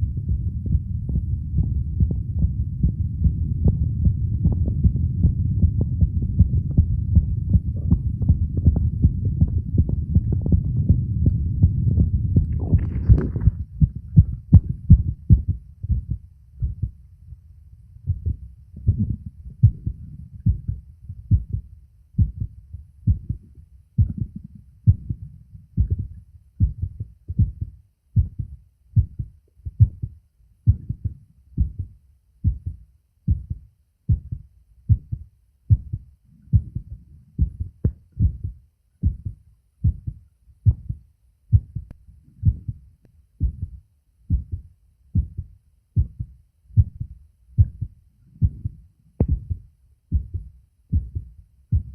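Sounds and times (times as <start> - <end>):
low rumble: 0.0 - 30.1, 30.7 - 51.9
heartbeat: 0.0 - 51.9.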